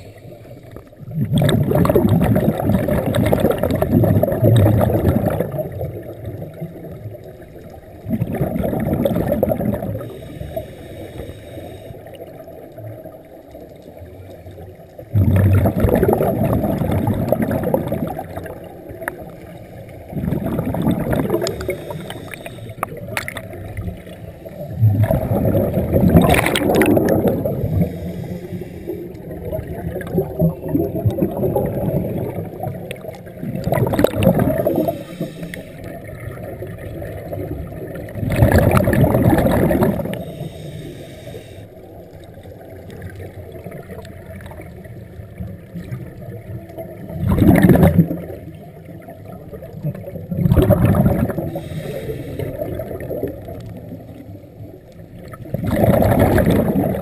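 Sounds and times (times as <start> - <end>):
gurgling exhaled bubbles: 0.0 - 10.8, 12.0 - 57.0
low underwater rumble: 0.0 - 57.0.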